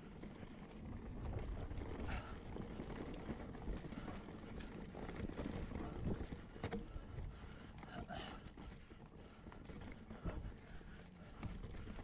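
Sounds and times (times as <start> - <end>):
bike tyre rumble on trail: 0.0 - 12.0.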